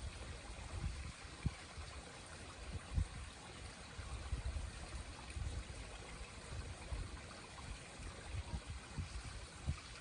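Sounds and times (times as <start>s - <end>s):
creek water trickling under ice: 0.0s - 10.0s.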